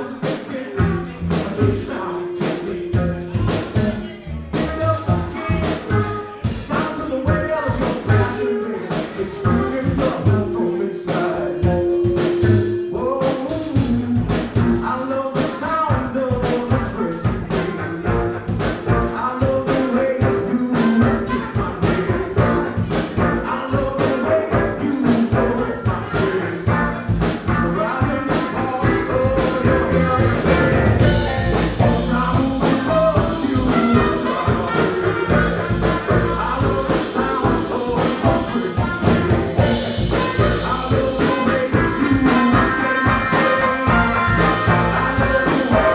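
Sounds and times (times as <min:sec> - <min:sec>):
live band playing: 0:00.0 - 0:45.9
person singing: 0:00.0 - 0:45.9.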